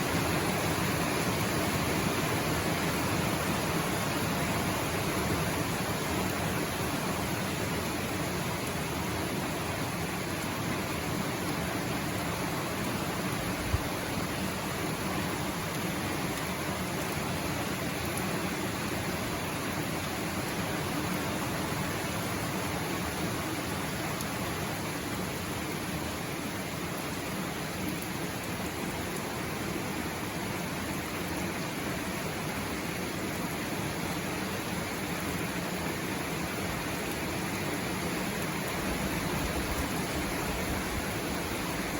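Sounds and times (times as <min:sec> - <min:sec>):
steady rainfall: 0:00.0 - 0:41.9.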